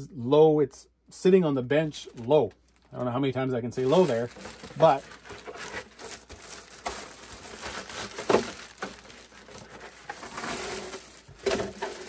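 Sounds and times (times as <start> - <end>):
handling rustling: 1.9 - 12.0.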